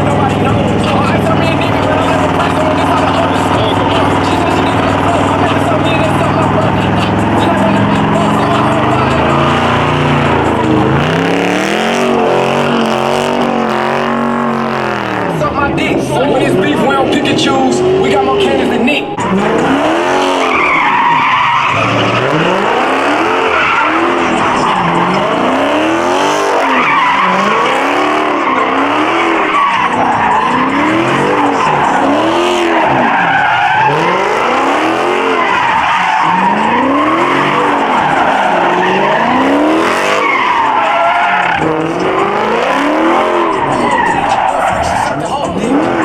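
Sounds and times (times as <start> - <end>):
car engine revving: 0.0 - 46.0
tyres squealing and skidding: 0.0 - 46.0.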